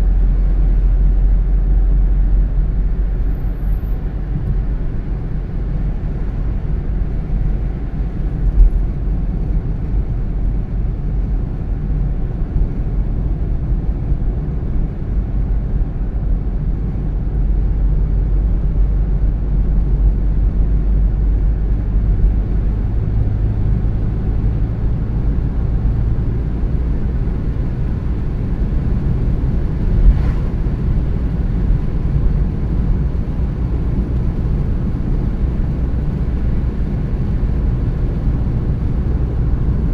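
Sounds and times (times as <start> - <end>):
car engine noise: 0.0 - 39.9
road and tyre rumble: 0.0 - 39.9.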